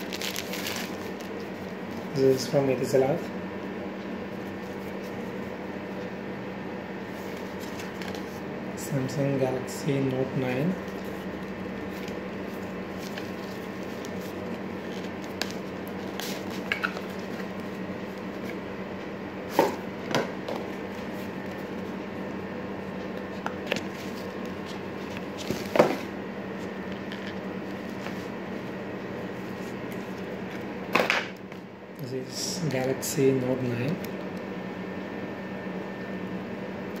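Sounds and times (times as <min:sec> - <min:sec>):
room hum: 0:00.0 - 0:37.0.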